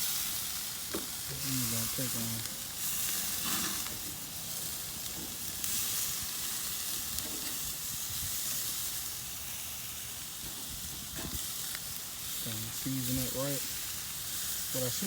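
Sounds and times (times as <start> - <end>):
steaks sizzling on a grill: 0.0 - 15.0.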